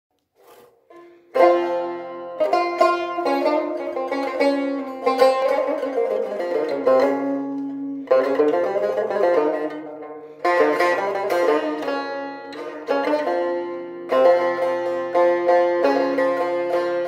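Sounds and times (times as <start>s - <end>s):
plucked lute melody: 0.4s - 17.0s.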